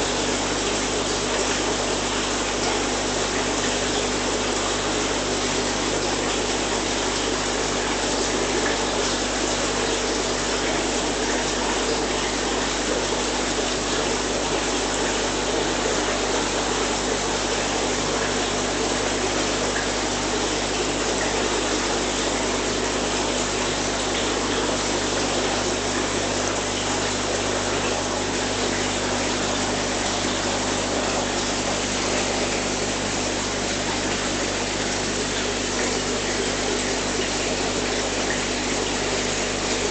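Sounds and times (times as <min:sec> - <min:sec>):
low pump hum: 0:00.0 - 0:39.9
rushing water: 0:00.0 - 0:39.9.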